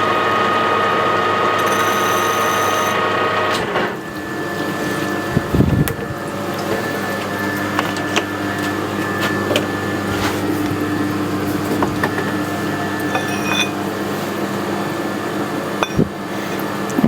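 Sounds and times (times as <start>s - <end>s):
high whine of metal cutting: 0.0s - 10.1s, 12.0s - 16.9s
metal lathe motor hum: 0.1s - 17.0s.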